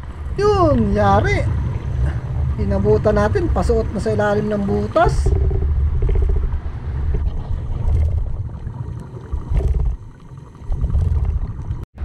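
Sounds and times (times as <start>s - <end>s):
underwater rumble of water: 0.0s - 11.9s.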